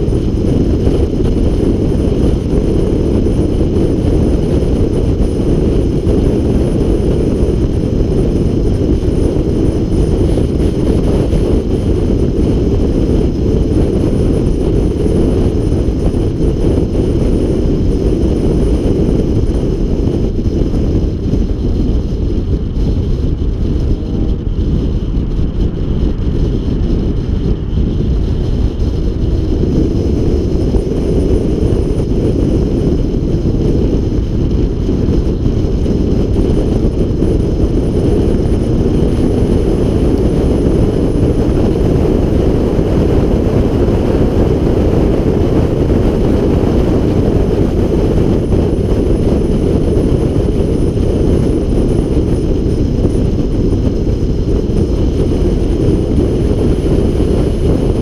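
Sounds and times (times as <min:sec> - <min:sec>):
car engine and road noise: 0:00.0 - 0:58.0
wind on microphone: 0:00.0 - 0:58.0.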